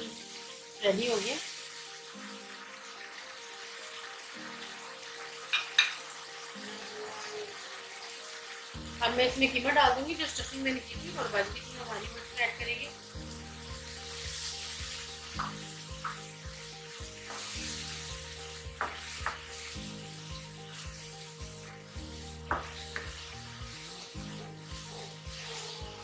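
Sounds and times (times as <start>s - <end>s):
meat sizzling in a wok: 0.0s - 26.0s.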